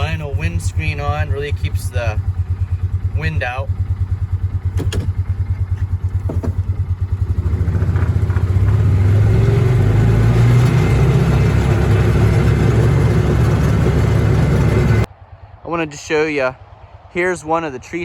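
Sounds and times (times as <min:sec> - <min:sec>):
utility vehicle engine running: 0:00.0 - 0:15.1.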